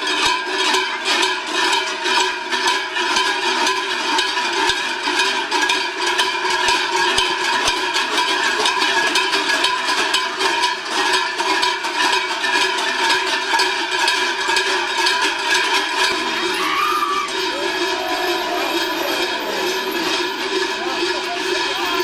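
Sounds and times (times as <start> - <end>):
cowbells clanging: 0.0 - 22.0.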